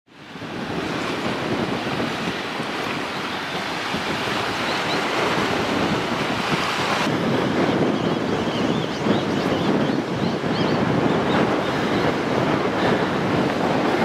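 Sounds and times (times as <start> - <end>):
wind buffeting microphone: 0.1 - 14.0.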